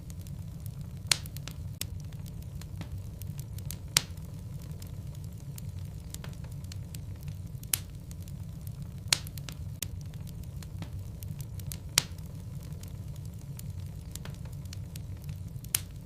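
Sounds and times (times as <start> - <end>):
fire crackling: 0.0 - 16.0
fire rumbling: 0.0 - 16.0.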